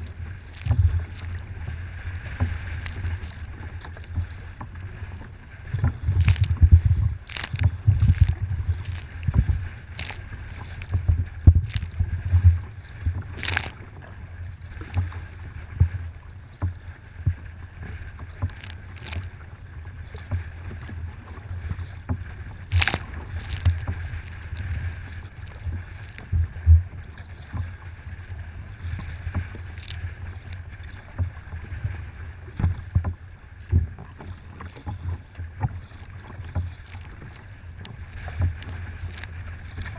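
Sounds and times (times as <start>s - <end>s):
waves slapping against boat hull: 0.0s - 39.9s
wind buffeting microphone: 0.0s - 39.9s.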